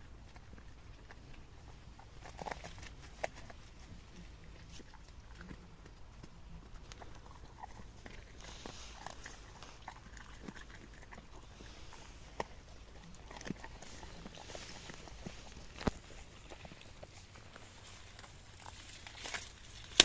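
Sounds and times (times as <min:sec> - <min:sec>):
dog chewing corn: 0:00.0 - 0:20.0.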